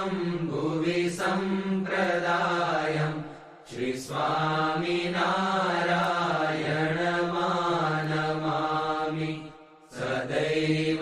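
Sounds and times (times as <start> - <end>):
person chanting melodically: 0.0 - 11.0.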